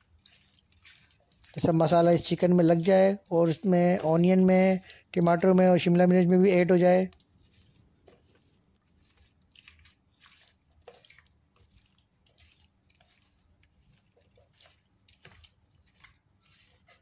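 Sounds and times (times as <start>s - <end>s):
wet squelches of marinade: 0.0s - 17.0s.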